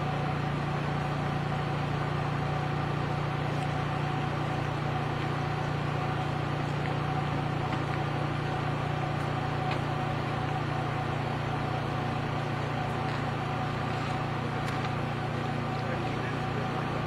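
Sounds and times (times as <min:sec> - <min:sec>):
thin constant whine: 0:00.0 - 0:17.0
train machine hum: 0:00.0 - 0:17.0.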